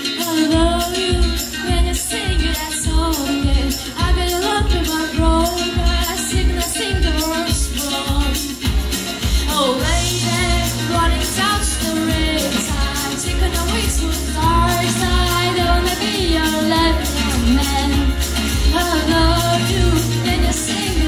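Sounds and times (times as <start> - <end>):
accompaniment with bass beat: 0.0 - 21.0
girl singing into microphone: 0.0 - 21.0.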